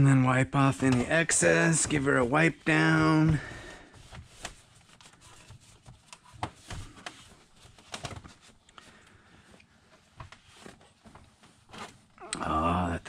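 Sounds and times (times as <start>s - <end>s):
cloth rag rubbing on plastic: 0.2s - 12.2s.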